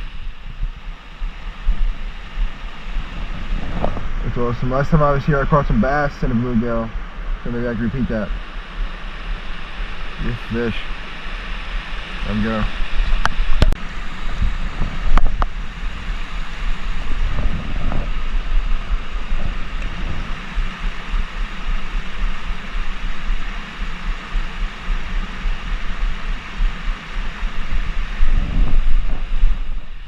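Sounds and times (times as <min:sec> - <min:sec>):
blizzard wind buffeting microphone: 0:00.0 - 0:30.0.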